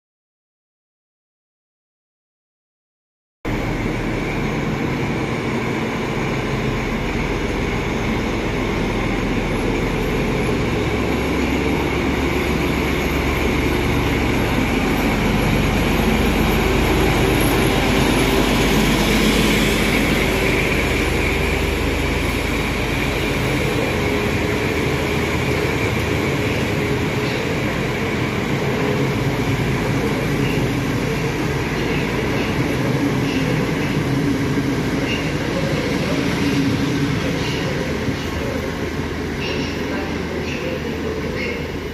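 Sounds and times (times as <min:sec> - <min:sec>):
diesel locomotive running under load: 0:03.5 - 0:41.9.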